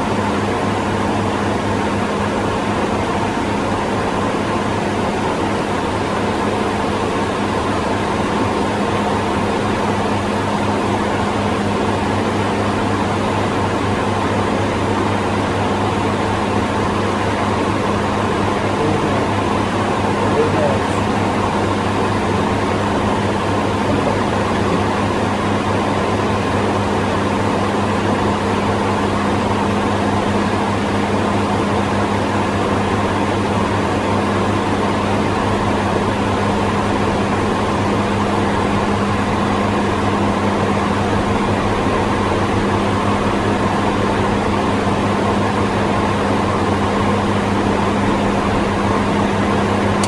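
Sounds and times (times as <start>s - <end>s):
constant low hum: 0.0s - 50.0s
jet cabin airflow rush: 0.0s - 50.0s.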